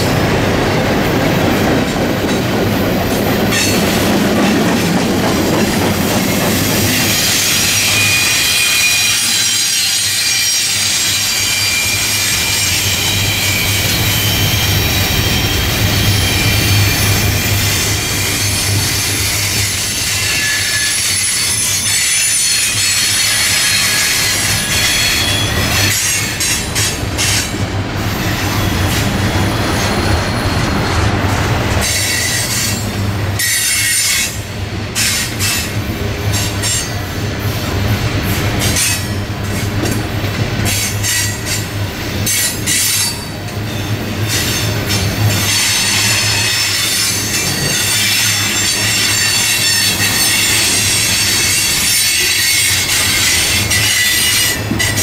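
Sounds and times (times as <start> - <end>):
low train rumble: 0.0 - 55.0
train wheels squealing on rail: 0.0 - 55.0.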